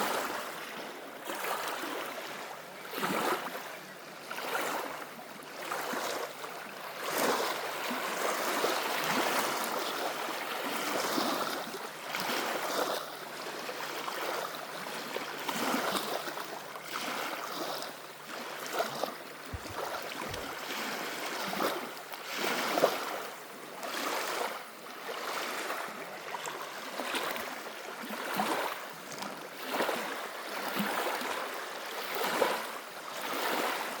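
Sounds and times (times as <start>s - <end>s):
small waves lapping and splashing: 0.0s - 34.0s.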